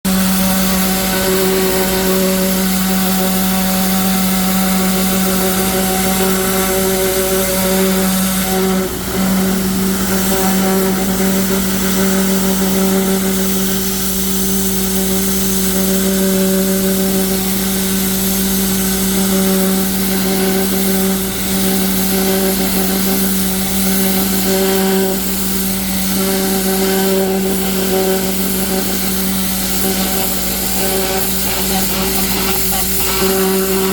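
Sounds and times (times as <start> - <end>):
pressure washer motor drone: 0.1 - 33.9
water spray hissing on wall: 0.1 - 33.9.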